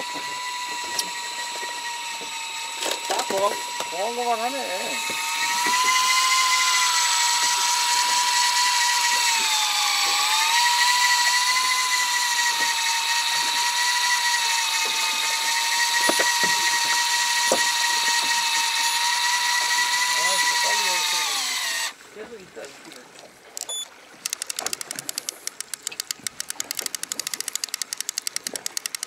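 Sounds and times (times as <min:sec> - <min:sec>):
fishing reel motor whining: 0:00.0 - 0:22.0, 0:23.5 - 0:29.0.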